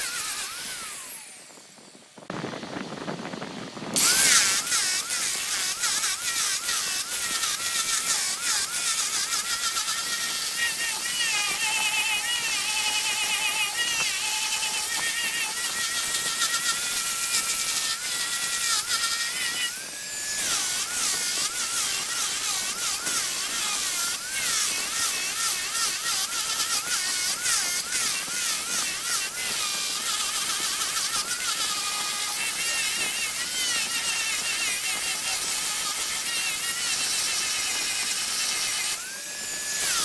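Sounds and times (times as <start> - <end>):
power tool whining on wood: 0.0 - 40.0.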